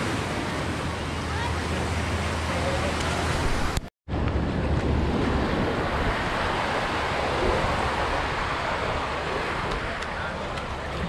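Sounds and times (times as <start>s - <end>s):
small waves washing onto shore: 0.0s - 11.0s
wind buffeting microphone: 0.0s - 11.0s.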